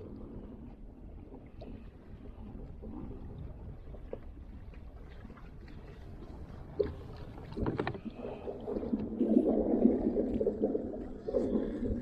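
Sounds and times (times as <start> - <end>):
water splashing against kayak hull: 0.0 - 12.0.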